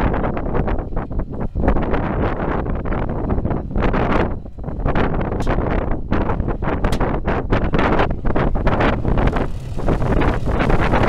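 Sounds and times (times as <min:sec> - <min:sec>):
aircraft engines running: 0:00.0 - 0:11.0
wind buffeting microphone: 0:00.0 - 0:11.0.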